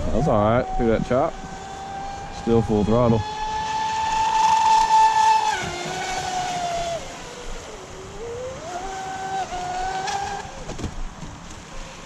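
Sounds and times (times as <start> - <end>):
electric motor whining: 0.0 - 10.8.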